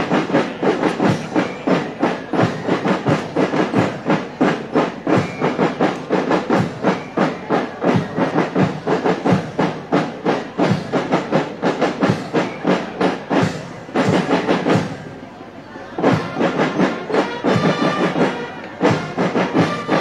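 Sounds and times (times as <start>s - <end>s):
marching band drums: 0.0s - 20.0s.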